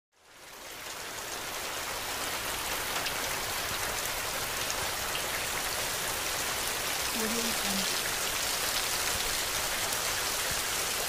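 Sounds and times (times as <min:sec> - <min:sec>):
heavy rain falling: 0:00.2 - 0:11.0.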